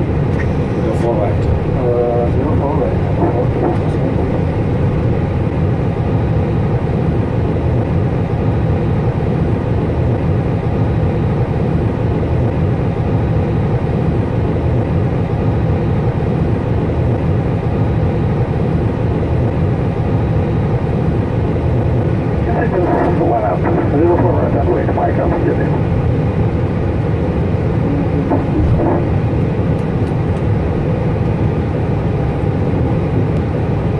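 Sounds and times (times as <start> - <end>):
jet engines rumbling: 0.0 - 33.9.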